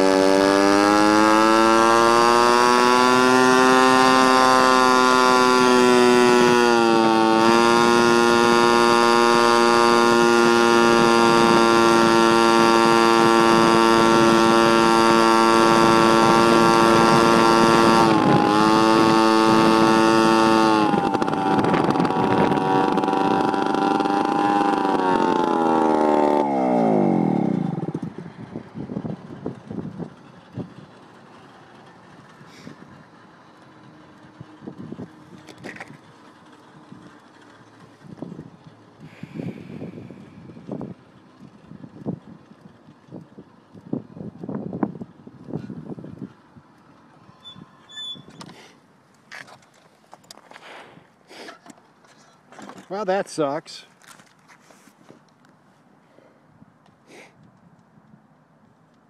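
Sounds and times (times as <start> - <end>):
moped engine buzzing: 0.0 - 50.8.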